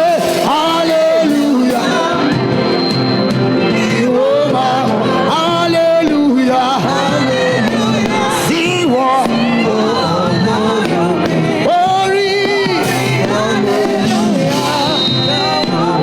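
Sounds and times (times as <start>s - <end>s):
lead singer singing: 0.0s - 16.0s
live gospel band music: 0.0s - 16.0s.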